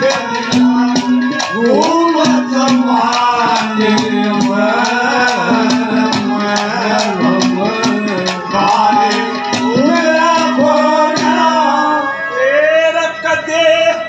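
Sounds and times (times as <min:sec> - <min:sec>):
drum strokes: 0:00.0 - 0:11.9
gliding folk melody: 0:00.0 - 0:14.0
steady drone: 0:00.0 - 0:14.0.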